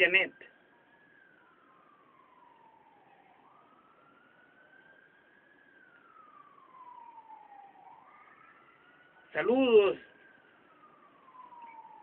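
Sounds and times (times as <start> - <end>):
faint siren wailing: 0.0 - 12.0.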